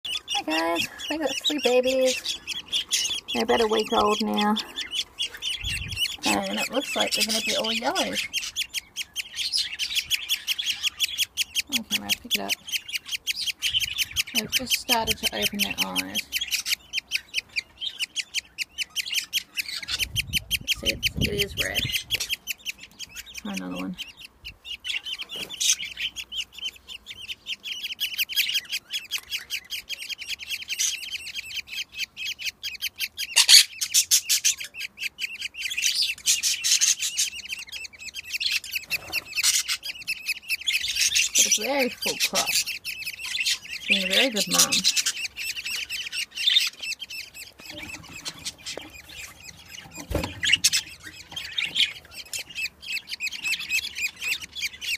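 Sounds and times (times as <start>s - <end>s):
budgerigars chirping: 0.0s - 54.9s
chicks cheeping: 0.0s - 54.9s.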